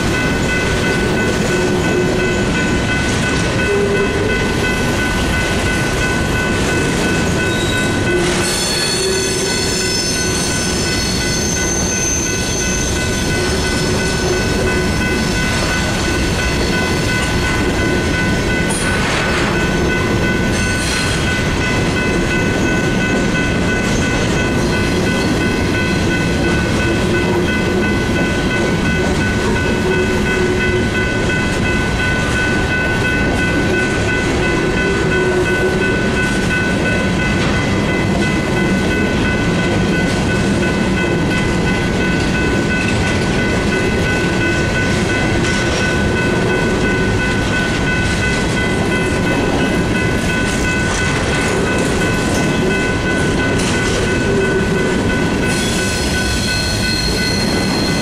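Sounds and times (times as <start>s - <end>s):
crossing bell ringing: 0.0s - 58.0s
freight train rumbling past: 0.0s - 58.0s.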